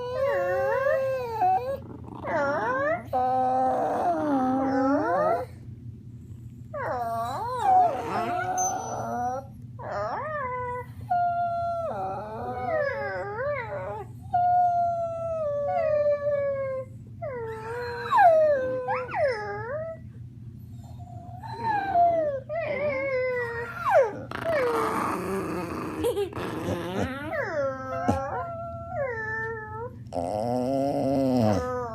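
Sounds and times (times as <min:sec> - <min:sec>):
dogs howling: 0:00.0 - 0:05.6, 0:06.8 - 0:20.0, 0:20.9 - 0:31.9.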